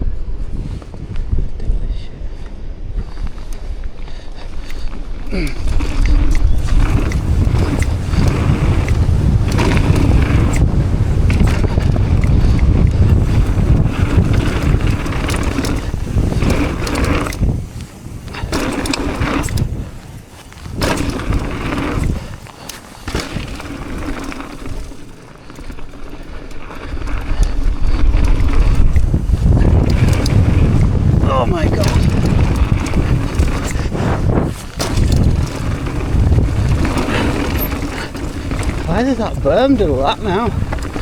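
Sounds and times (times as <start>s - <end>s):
bike rattling over rough ground: 0.0s - 41.0s
wind rumble on microphone: 0.0s - 41.0s.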